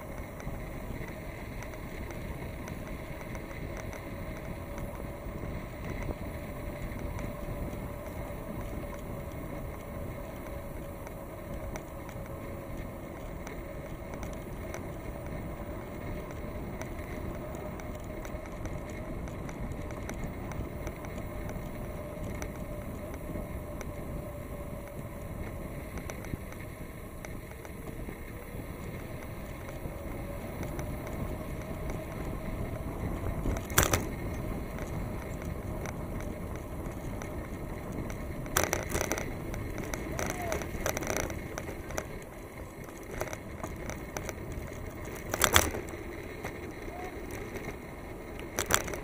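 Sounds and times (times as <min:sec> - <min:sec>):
bicycle rolling: 0:00.0 - 0:49.0
wind: 0:00.0 - 0:49.0.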